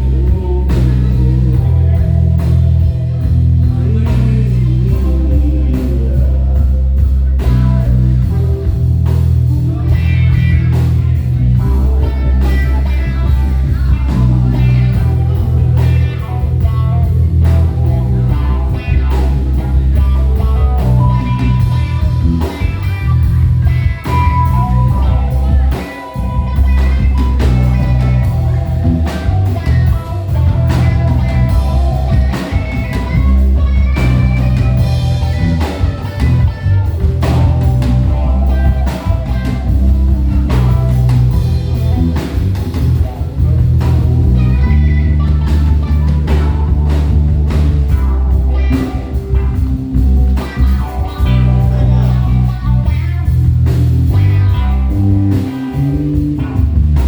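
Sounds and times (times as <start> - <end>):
lead guitar line: 0.0 - 57.0
live band playing: 0.0 - 57.0.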